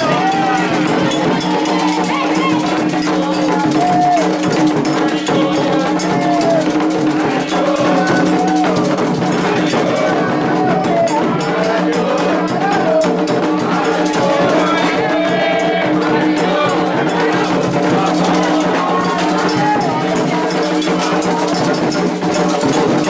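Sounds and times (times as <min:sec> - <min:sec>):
drums and percussion: 0:00.0 - 0:23.0
voices singing a chant: 0:00.0 - 0:23.0.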